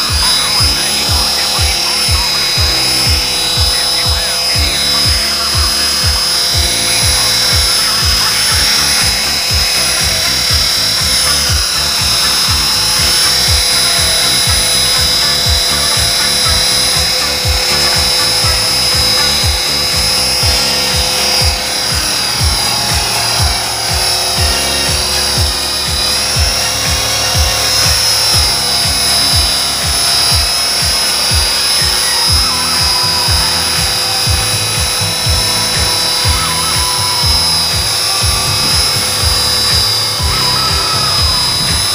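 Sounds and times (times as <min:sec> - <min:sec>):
background music with beat: 0:00.0 - 0:41.9
rc helicopter motor whine: 0:00.0 - 0:41.9.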